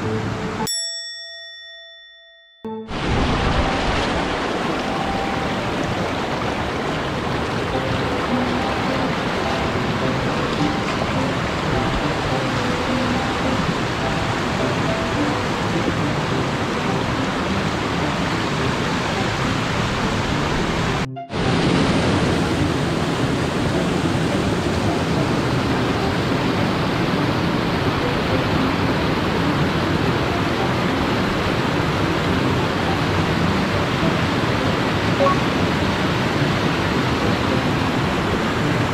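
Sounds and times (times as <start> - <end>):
stream pouring over rocks: 2.9 - 38.9.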